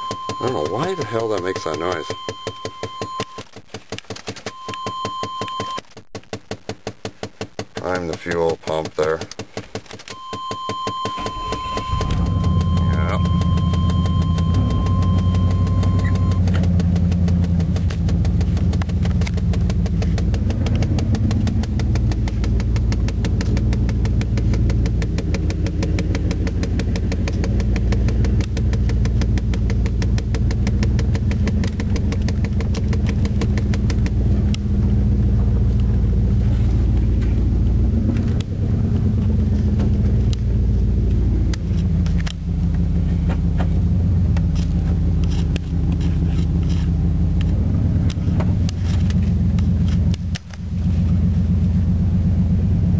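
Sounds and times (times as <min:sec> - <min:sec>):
truck engine running: 0:00.0 - 0:03.2, 0:10.2 - 0:52.9.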